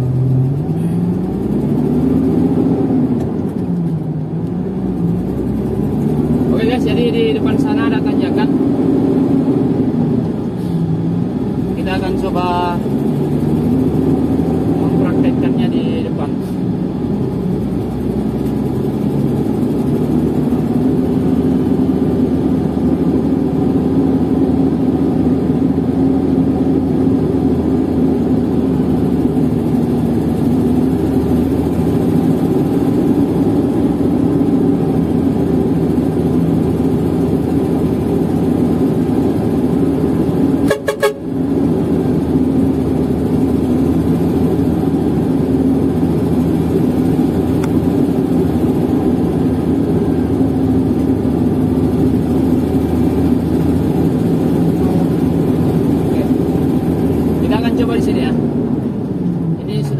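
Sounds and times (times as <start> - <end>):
diesel engine drone in cab: 0.0 - 59.9.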